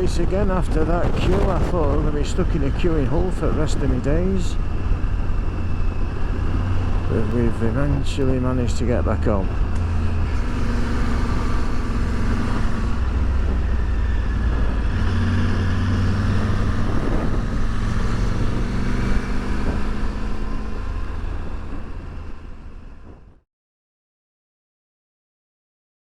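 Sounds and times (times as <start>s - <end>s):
motorcycle engine running: 0.0s - 23.3s
wind and road noise: 0.0s - 23.4s.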